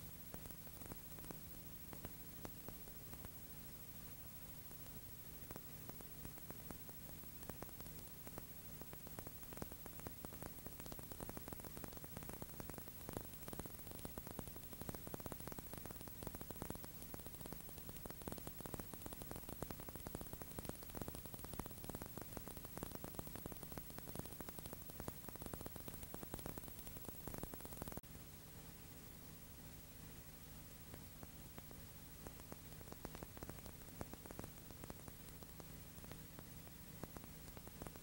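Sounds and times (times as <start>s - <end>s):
dense fine crackle: 0.0s - 38.0s
low mains hum: 0.0s - 38.0s
steady hiss: 0.0s - 38.0s.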